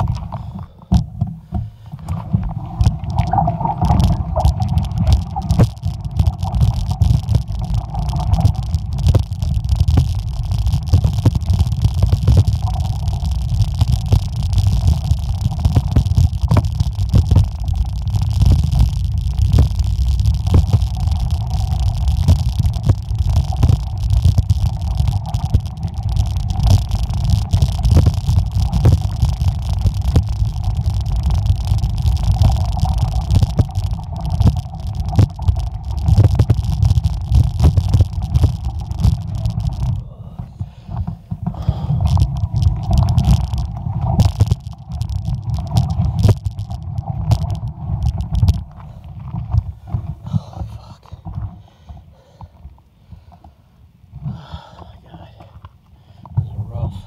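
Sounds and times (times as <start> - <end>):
bike rumble on microphone: 0.0 - 52.5.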